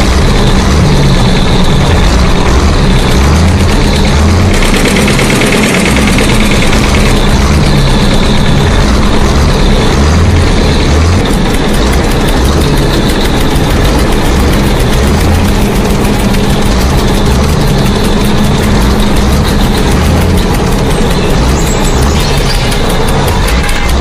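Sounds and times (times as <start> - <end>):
motor running loudly: 0.0 - 24.0.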